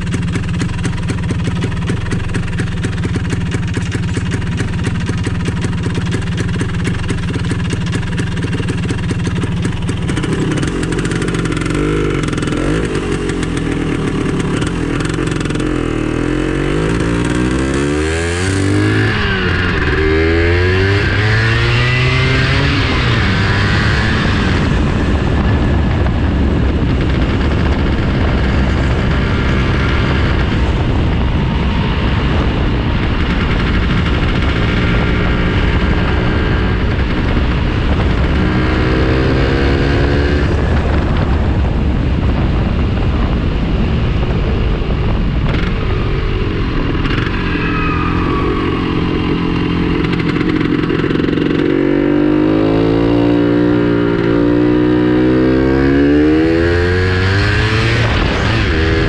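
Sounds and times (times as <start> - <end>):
scooter engine revving: 0.0 - 41.8, 45.5 - 59.0
wind and road noise: 0.0 - 59.0.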